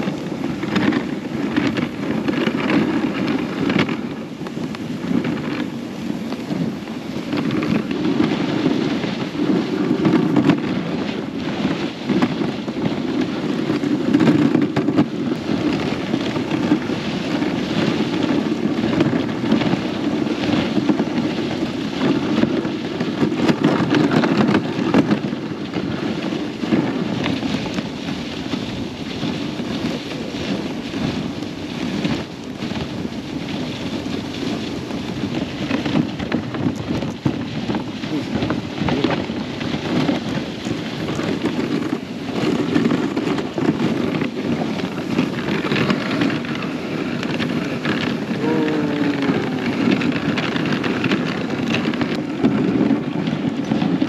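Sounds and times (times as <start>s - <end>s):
sled runners hissing on snow: 0.0s - 54.0s
wind on microphone: 0.0s - 54.0s.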